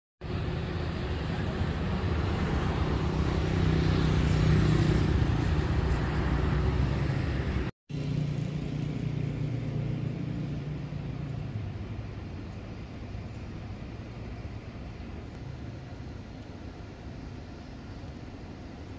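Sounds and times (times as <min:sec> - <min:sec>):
city road traffic: 0:00.2 - 0:18.9
engine hum: 0:00.2 - 0:18.9.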